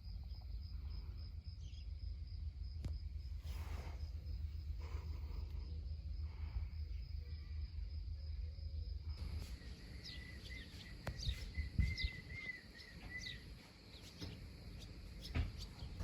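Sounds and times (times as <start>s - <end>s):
high insect trill: 0.0s - 16.0s
low outdoor rumble: 0.0s - 16.0s
small birds chirping: 0.0s - 16.0s.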